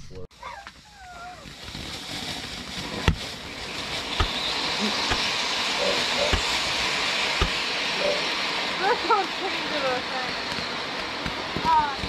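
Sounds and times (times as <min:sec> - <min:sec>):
firework fountain hissing: 0:00.3 - 0:12.0
sharp firework pops: 0:00.6 - 0:12.0.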